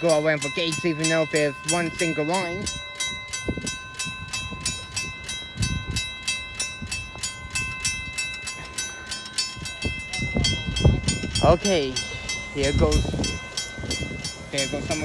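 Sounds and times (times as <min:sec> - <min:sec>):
railway crossing bell ringing: 0:00.0 - 0:15.0.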